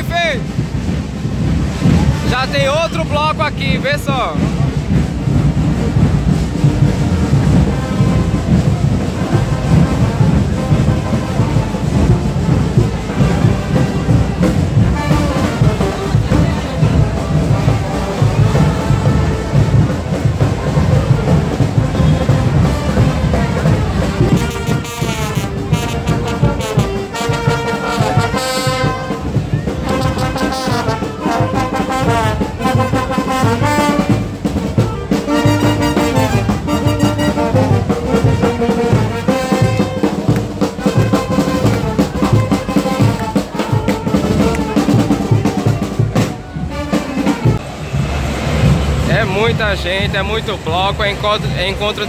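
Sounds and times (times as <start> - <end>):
brass band playing: 0.0 - 52.0
steady drumbeat: 0.0 - 52.0.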